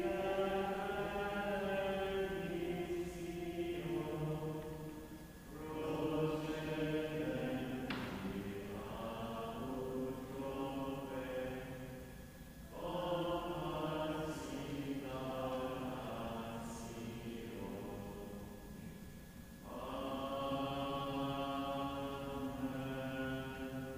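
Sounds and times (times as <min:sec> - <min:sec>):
voices singing slow chant: 0:00.0 - 0:23.9.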